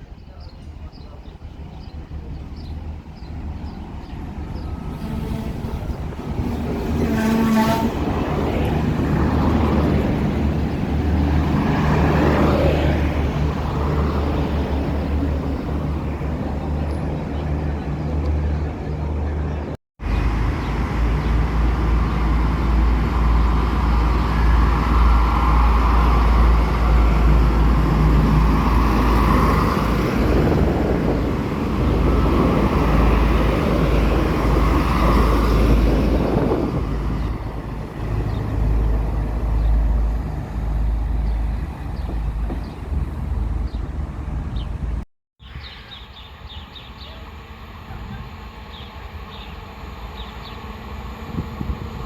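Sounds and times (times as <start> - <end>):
train running past: 0.0 - 52.0.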